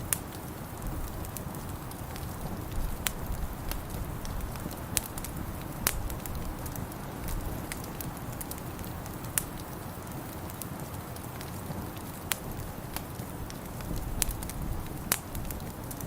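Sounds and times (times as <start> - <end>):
low rumble of fire: 0.0 - 16.0
sharp pops of fire: 0.0 - 16.0
wood fire crackling: 0.0 - 16.0.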